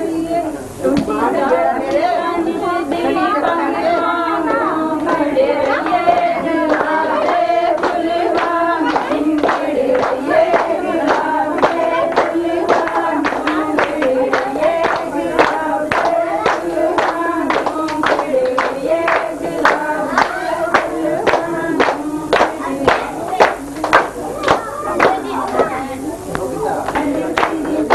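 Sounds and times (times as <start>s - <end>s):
group of voices singing: 0.0s - 27.9s
hand clapping: 3.9s - 27.9s.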